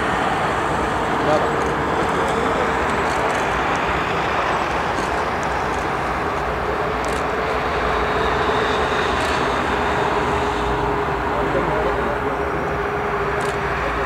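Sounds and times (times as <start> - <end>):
jet engines rushing and whining: 0.0 - 14.0.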